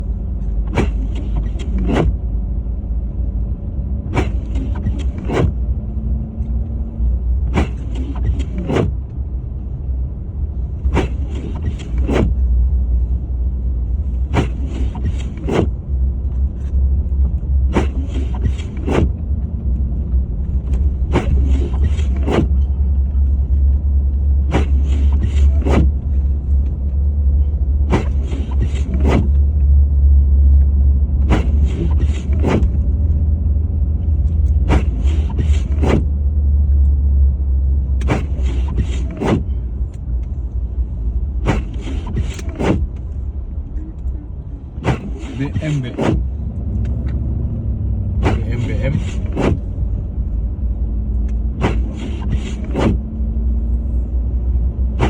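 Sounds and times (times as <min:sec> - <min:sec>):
car driving rumble: 0:00.0 - 0:55.0
windshield wipers sweeping: 0:00.1 - 0:02.3, 0:04.0 - 0:09.8, 0:10.6 - 0:29.8, 0:31.0 - 0:33.2, 0:33.8 - 0:37.1, 0:37.7 - 0:55.0.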